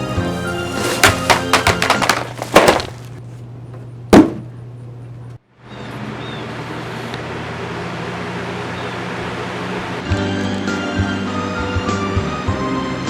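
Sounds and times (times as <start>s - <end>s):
electric fan motor hum: 0.0s - 13.0s.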